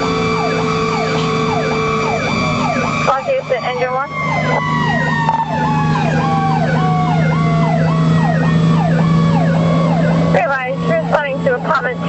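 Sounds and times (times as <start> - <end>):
electronic siren yelp: 0.0 - 12.0
siren tone sliding down: 0.0 - 12.0
truck drone: 0.0 - 12.0.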